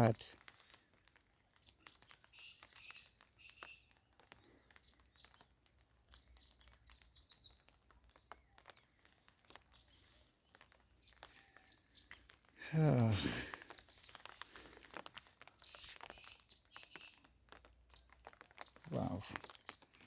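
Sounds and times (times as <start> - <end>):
songbirds trilling: 0.0 - 0.4, 1.5 - 20.0.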